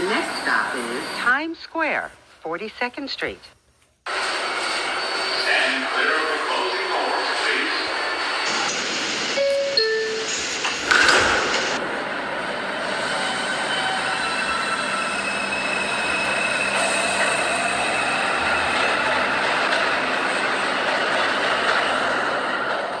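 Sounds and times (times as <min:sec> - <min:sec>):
subway train rolling: 0:00.0 - 0:02.2, 0:04.1 - 0:23.0.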